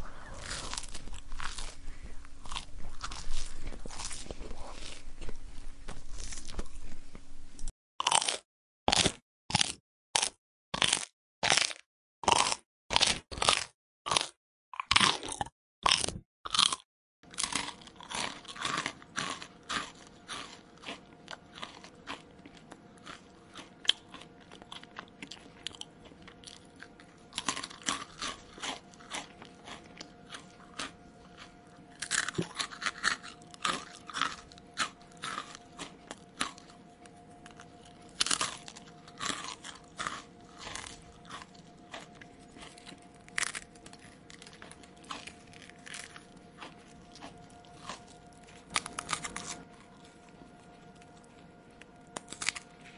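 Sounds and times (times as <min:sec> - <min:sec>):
person chewing crunchy food: 0:00.0 - 0:07.3, 0:08.0 - 0:52.9
faint steady hum: 0:00.0 - 0:07.7, 0:17.3 - 0:52.9.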